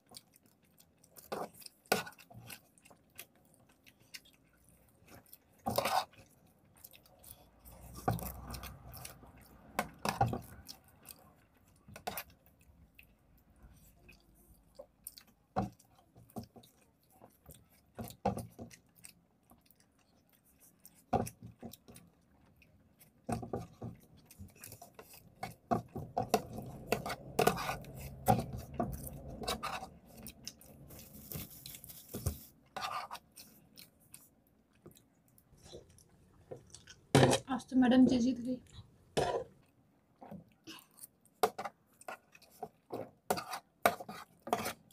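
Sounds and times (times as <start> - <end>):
chewing with wet mouth noises: 0.0 - 37.1, 38.6 - 44.9.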